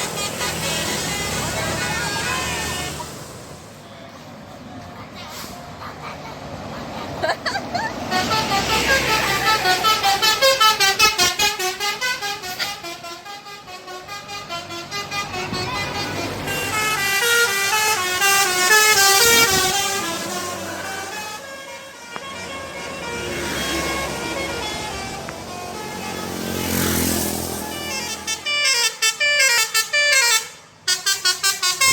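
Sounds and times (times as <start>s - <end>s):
musical bus horn melody: 0.0s - 4.0s, 7.9s - 31.9s.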